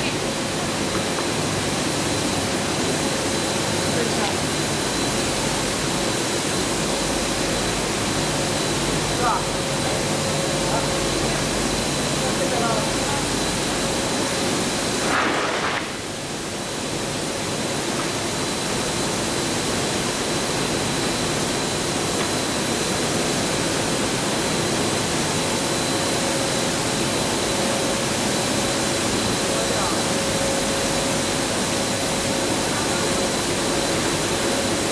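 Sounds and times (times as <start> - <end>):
high machine whine: 0.0 - 34.9
mid-pitched machine hum: 0.0 - 34.9.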